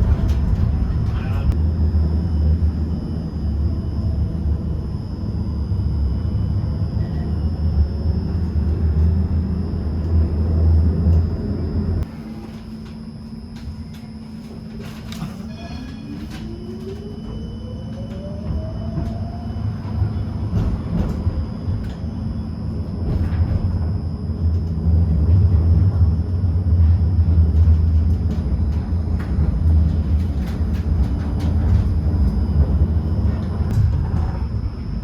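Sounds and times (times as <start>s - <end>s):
tram rumble: 0.0s - 35.0s
tram whine: 0.0s - 35.0s.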